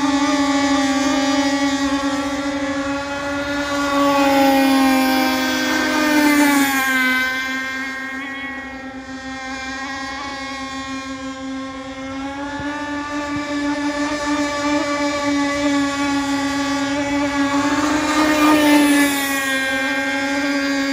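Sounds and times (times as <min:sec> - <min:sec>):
rc boat motor whine: 0:00.0 - 0:20.9.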